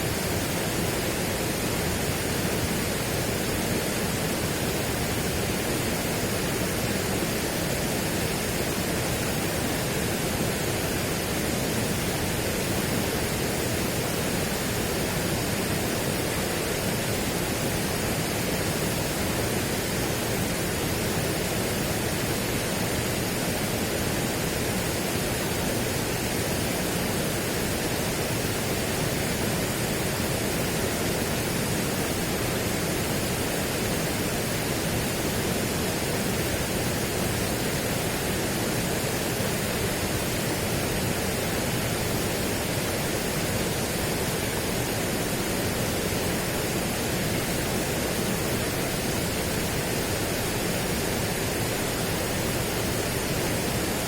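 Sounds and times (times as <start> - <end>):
steady broadband rushing noise: 0.0 - 54.0.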